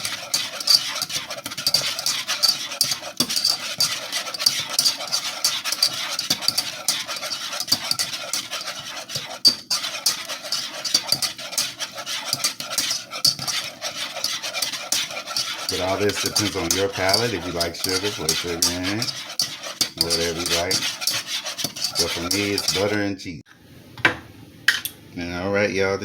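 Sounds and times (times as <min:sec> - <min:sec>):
utensil scraping a pot: 0:00.0 - 0:23.1.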